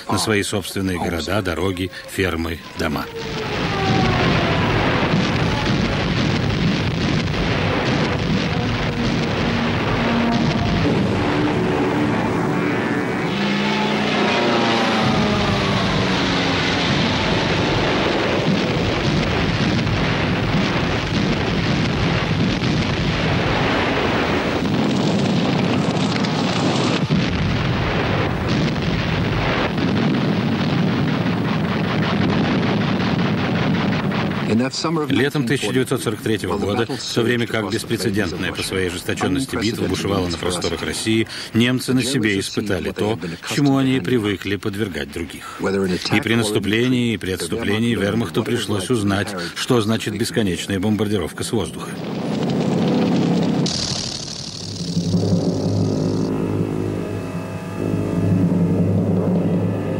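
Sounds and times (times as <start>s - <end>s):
bomb explosions rumbling: 0.0s - 59.9s.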